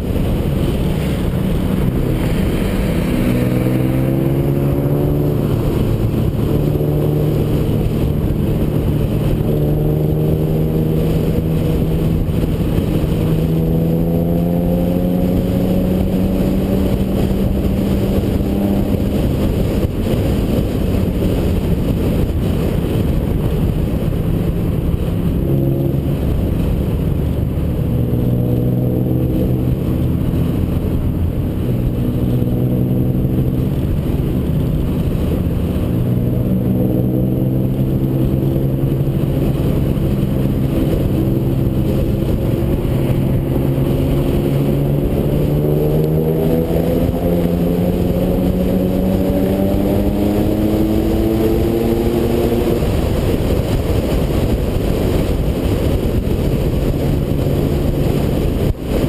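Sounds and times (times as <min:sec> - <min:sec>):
car engine pulling uphill: 0:00.0 - 0:59.0
wind noise: 0:00.0 - 0:59.0.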